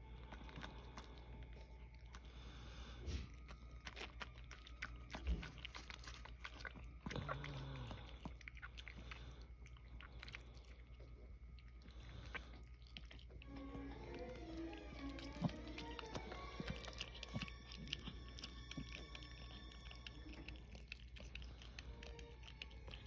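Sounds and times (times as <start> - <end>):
dog licking and chewing: 0.0 - 23.0.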